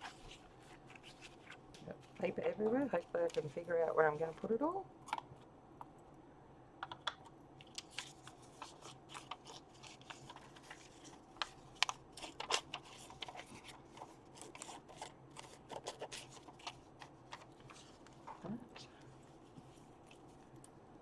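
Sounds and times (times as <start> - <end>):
paper rustling and shuffling: 0.0 - 5.4, 7.6 - 20.6.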